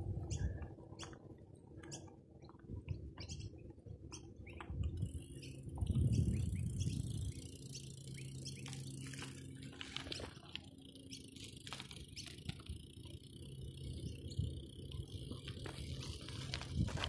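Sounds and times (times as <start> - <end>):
low steady hum: 0.0 - 17.0
birds chirping: 0.1 - 17.0.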